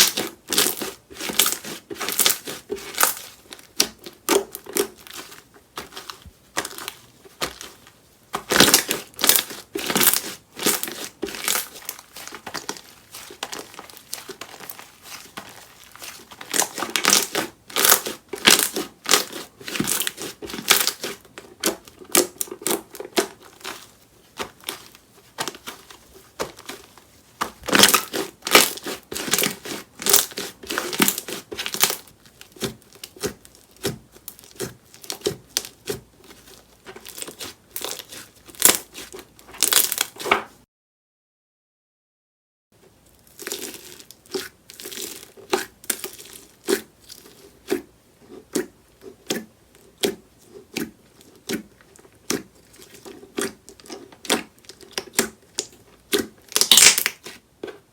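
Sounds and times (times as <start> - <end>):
slime crackling and popping: 0.0 - 40.4, 43.2 - 47.8, 48.5 - 57.4.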